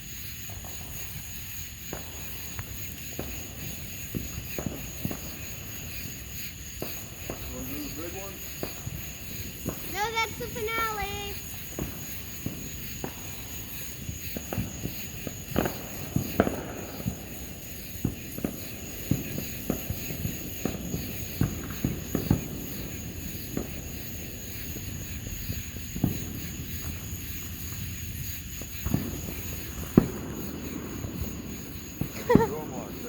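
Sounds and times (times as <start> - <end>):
fireworks popping and cracking: 0.0 - 33.0.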